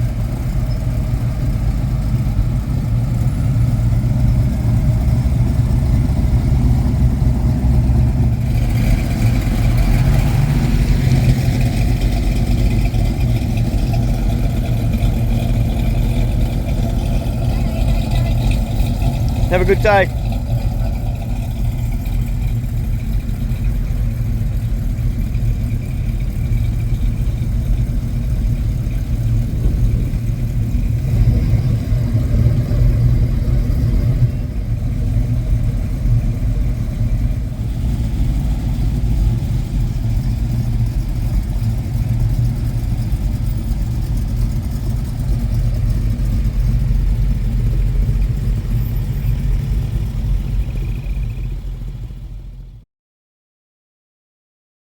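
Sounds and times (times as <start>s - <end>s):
car engines running: 0.0s - 52.8s.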